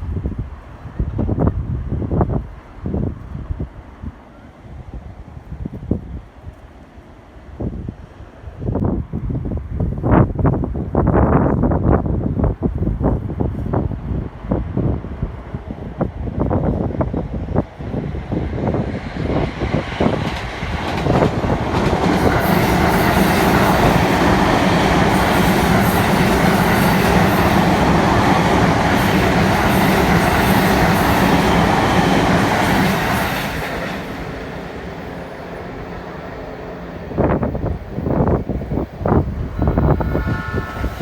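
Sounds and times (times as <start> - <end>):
train passing close by: 0.0 - 41.0
wind buffeting microphone: 0.0 - 41.0.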